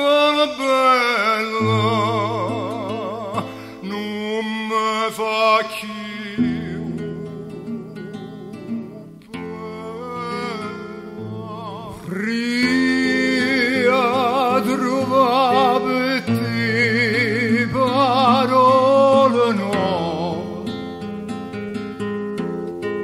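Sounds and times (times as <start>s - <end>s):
guitar accompaniment: 0.0s - 23.0s.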